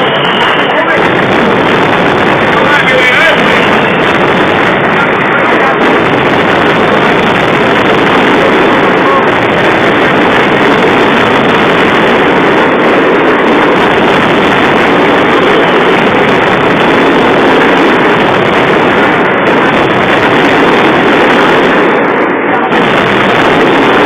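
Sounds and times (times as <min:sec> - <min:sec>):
firework crackling: 0:00.0 - 0:24.0.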